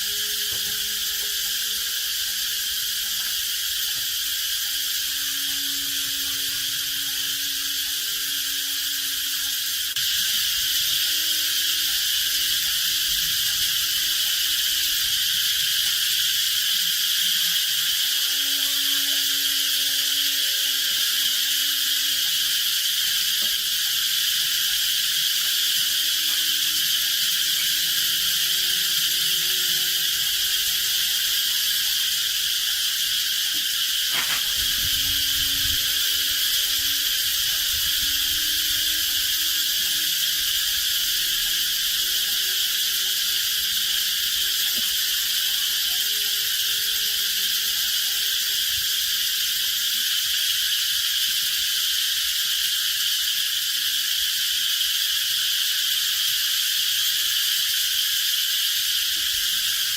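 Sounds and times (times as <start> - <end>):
insects shrilling: 0.0 - 59.9.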